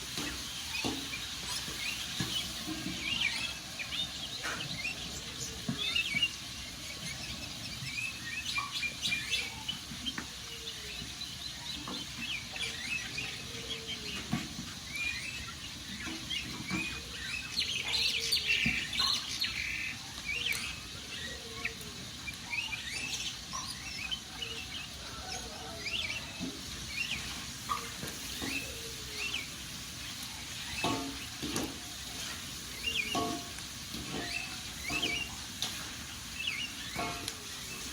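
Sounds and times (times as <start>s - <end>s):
wood fire crackling: 0.0s - 19.3s, 19.9s - 37.9s
birds chirping: 0.0s - 37.9s.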